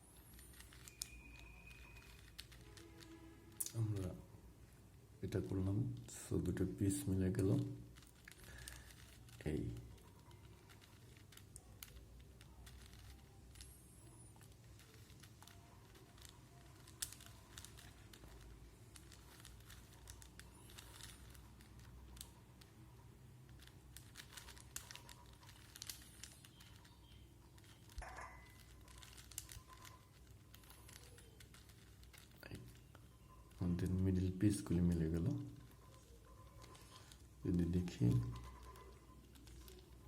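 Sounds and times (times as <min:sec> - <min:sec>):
puzzle cube plastic clicks: 0:00.2 - 0:04.1, 0:07.3 - 0:40.0.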